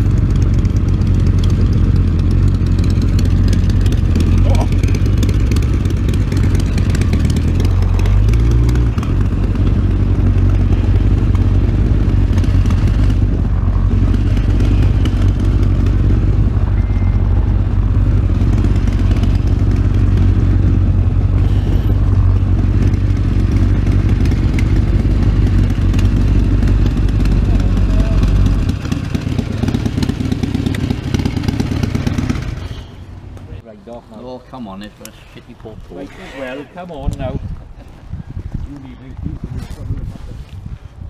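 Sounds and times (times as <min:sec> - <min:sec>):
motorcycle engine running: 0:00.0 - 0:33.4.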